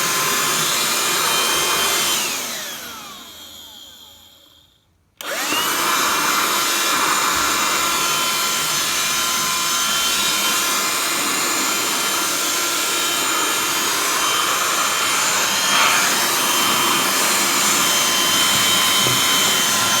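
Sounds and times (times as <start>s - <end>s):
handheld vacuum motor whine: 0.0s - 20.0s.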